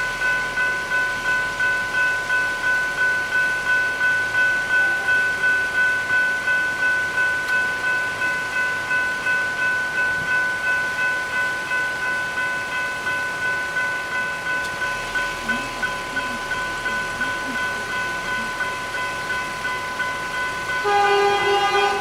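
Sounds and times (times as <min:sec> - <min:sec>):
level crossing warning bell: 0:00.0 - 0:22.0.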